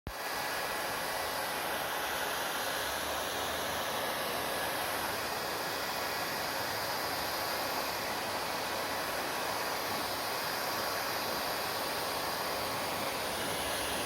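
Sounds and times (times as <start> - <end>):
hair dryer running: 0.1 - 14.0.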